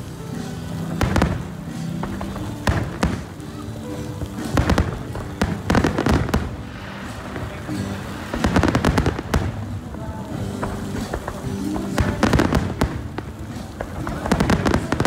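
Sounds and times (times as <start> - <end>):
background music with held notes: 0.0 - 15.0
fireworks bangs and crackles: 0.0 - 15.0.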